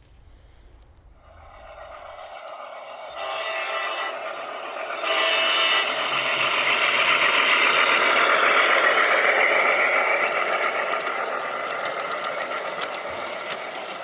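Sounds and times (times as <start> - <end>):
model train motor whirring: 1.1 - 14.0.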